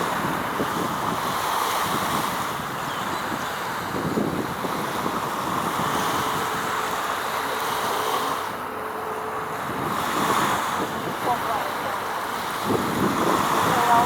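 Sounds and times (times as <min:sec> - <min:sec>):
rushing water: 0:00.0 - 0:14.0
wind on microphone: 0:00.0 - 0:14.0.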